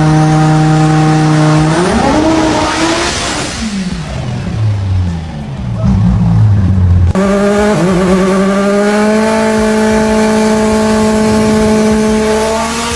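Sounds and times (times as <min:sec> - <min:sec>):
car engine revving high: 0:00.0 - 0:12.9.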